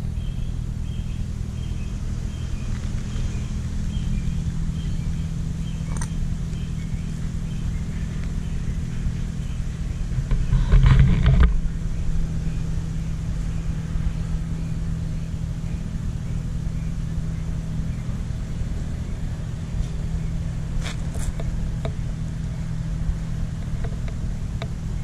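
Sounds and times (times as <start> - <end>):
motor rumbling: 0.0 - 25.0.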